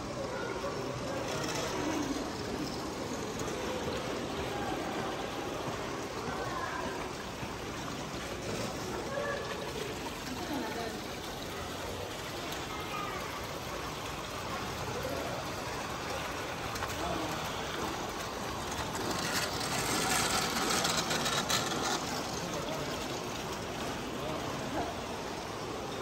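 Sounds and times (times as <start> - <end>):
distant voices murmuring: 0.0 - 26.0
model train clattering past: 0.0 - 26.0
water splashing and trickling: 0.0 - 26.0.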